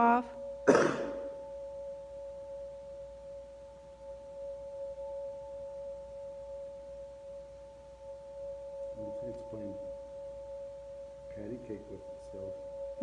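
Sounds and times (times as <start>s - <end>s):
steady two-pitch electronic tone: 0.0s - 13.0s.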